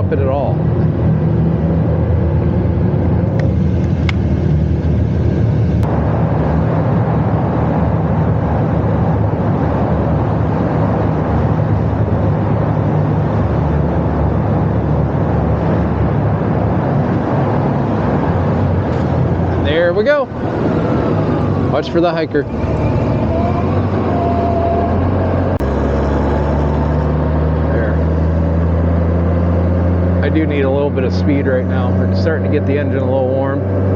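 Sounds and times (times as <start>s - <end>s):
road and wind noise: 0.0s - 33.9s.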